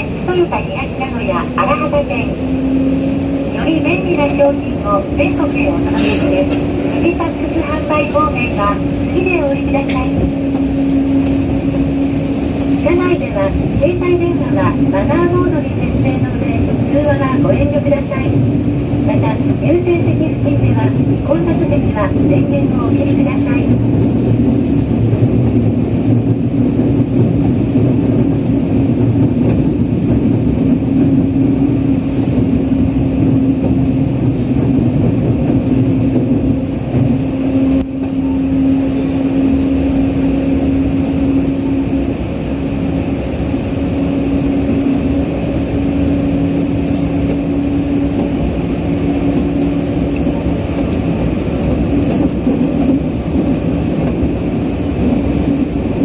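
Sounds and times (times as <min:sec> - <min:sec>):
low held drone: 0:00.0 - 0:56.0
train wheels rumbling: 0:00.0 - 0:56.0.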